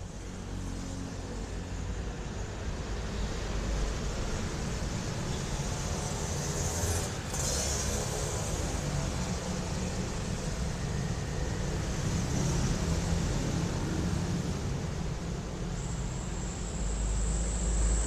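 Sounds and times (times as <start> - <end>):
road vehicle rumble with hiss: 0.0 - 18.0.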